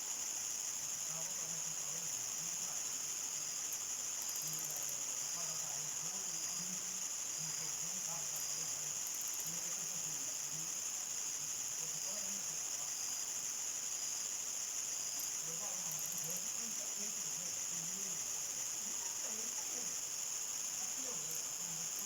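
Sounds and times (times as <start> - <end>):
crickets chirping chorus: 0.0 - 22.0.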